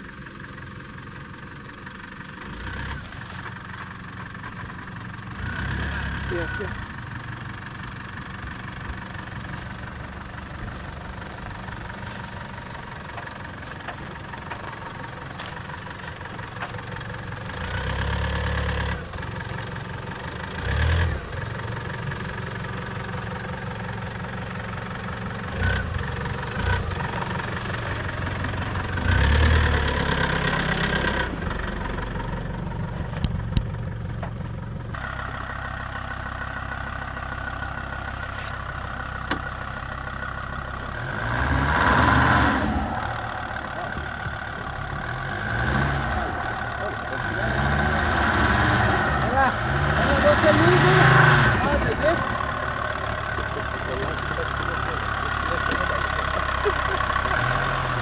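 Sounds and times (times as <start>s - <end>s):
off-road vehicle engine revving: 2.4s - 58.0s.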